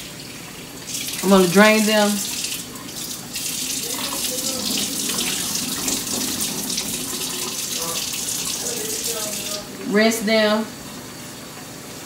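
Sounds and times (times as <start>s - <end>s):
faucet running into steel sink: 0.0s - 9.8s.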